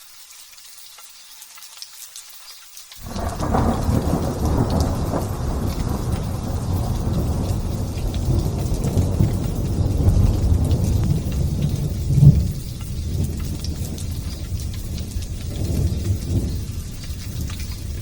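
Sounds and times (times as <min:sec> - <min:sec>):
raindrop patter: 0:00.0 - 0:18.0
thunder rumbling: 0:03.0 - 0:18.0.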